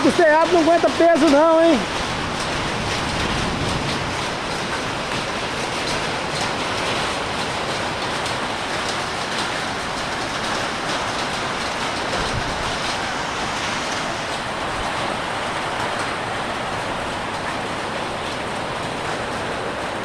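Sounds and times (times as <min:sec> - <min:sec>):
hail hits: 0:00.0 - 0:20.0
heavy rain pouring: 0:00.0 - 0:20.0.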